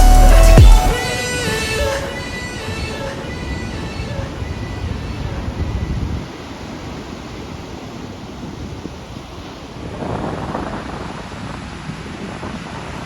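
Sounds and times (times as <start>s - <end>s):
ocean surf washing: 0.9s - 13.0s
wind rumbling on microphone: 1.4s - 13.0s.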